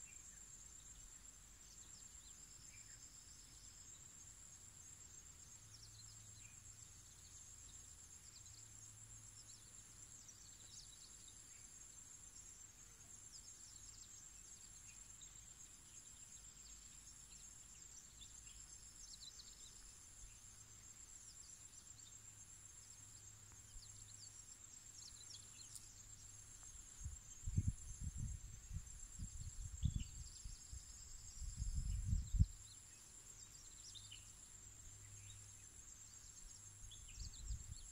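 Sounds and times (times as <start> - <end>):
insect chorus: 0.0 - 37.9.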